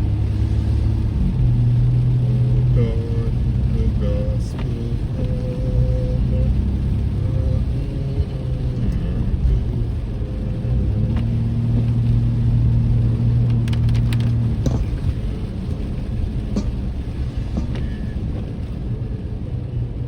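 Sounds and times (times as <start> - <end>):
car engine and road rumble: 0.0 - 20.0
low hum: 0.0 - 20.0.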